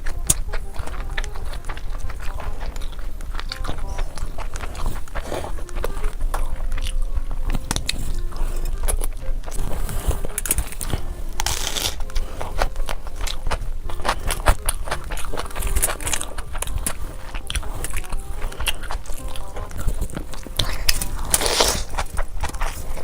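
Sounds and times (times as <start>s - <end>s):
crunchy bites and chewing: 0.0s - 23.0s
sharp crackles: 0.0s - 23.0s.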